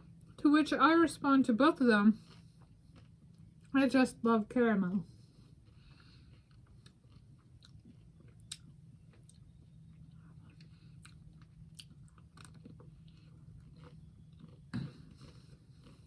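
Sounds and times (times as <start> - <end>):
low steady hum: 0.0 - 16.0
chewing ice cream bar: 2.2 - 4.2, 5.0 - 16.0.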